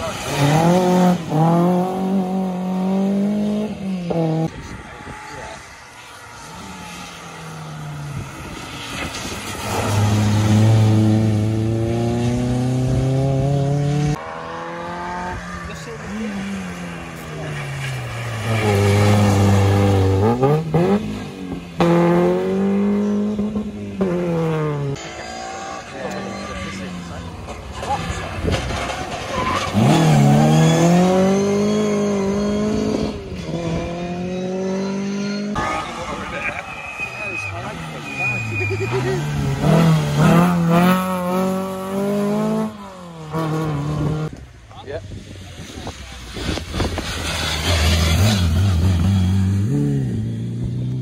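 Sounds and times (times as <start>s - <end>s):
rally car engine accelerating: 0.0s - 5.7s, 6.4s - 44.4s.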